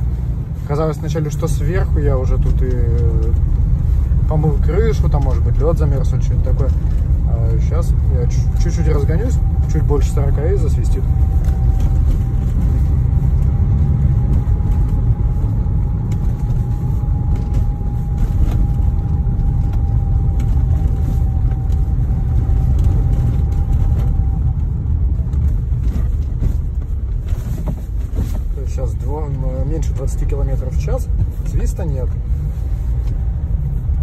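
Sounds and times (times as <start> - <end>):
road and engine rumble: 0.0 - 34.0.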